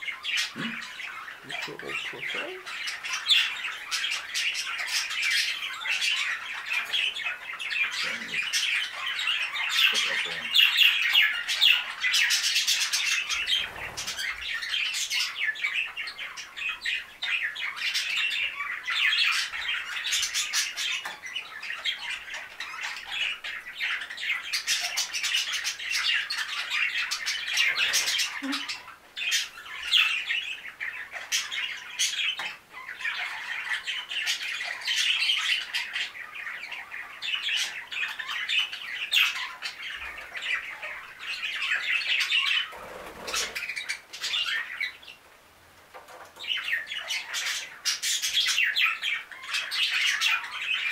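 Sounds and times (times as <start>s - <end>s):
budgerigars chattering and chirping: 0.0s - 45.3s, 46.0s - 50.9s.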